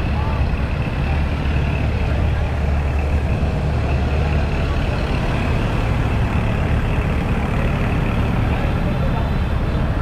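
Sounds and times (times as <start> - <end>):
diesel truck engine drone: 0.0 - 10.0.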